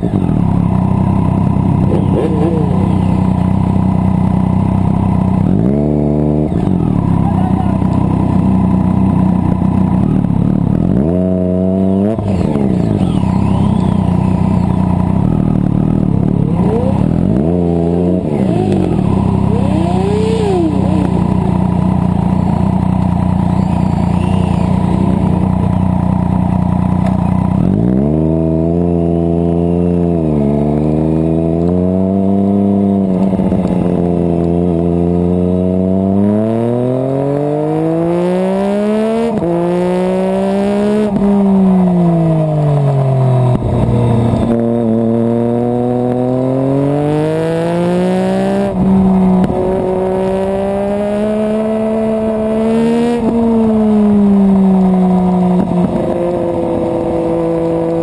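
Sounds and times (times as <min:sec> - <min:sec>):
distant engines: 0:00.0 - 0:58.0
motorcycle engine revving: 0:00.0 - 0:58.0.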